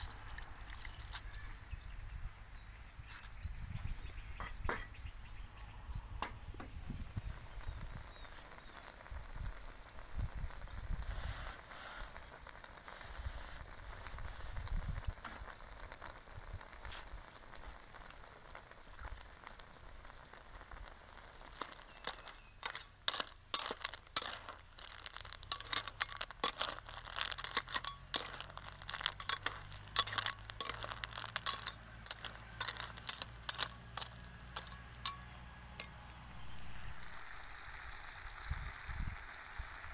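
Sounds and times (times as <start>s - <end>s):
broth bubbling in a pan: 0.0s - 1.6s, 3.6s - 39.9s.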